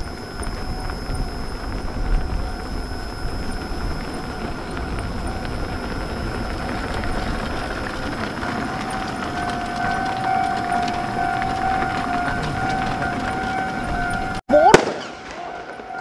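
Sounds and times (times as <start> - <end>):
motorbike engine running: 0.0 - 14.4
wind rumble on microphone: 0.0 - 14.4
steady whine: 0.0 - 16.0.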